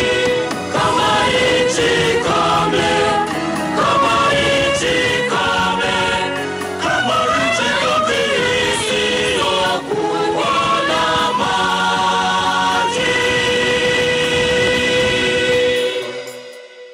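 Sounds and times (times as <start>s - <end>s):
choir singing gospel song: 0.0s - 16.8s.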